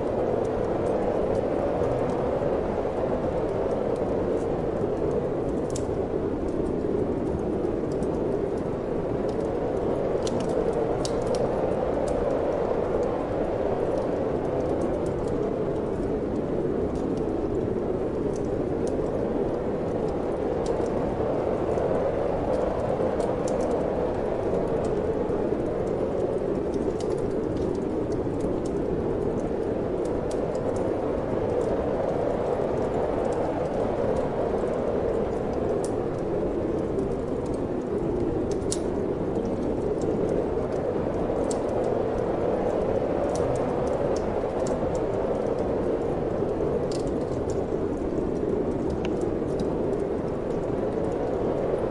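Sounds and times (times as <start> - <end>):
wood fire crackling: 0.0 - 51.9
wind blowing: 8.2 - 51.9.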